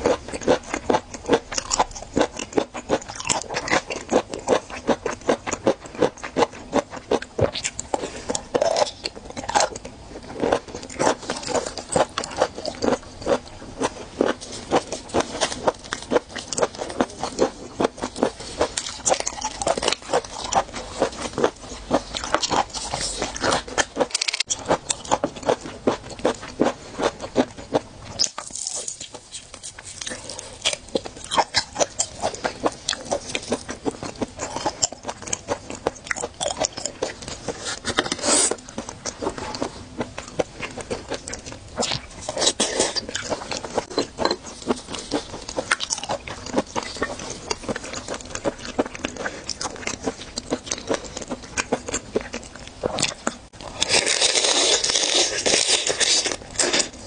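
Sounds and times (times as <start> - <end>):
wet chewing and lip-smacking: 0.0 - 57.0.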